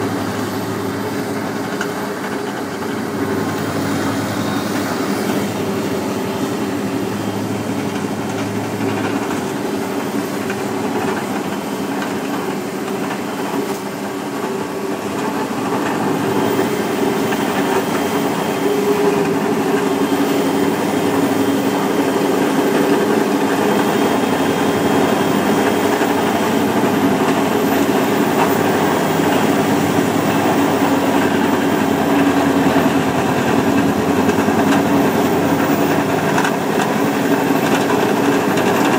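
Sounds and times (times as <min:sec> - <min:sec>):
tractor engine running under load: 0:00.0 - 0:38.9.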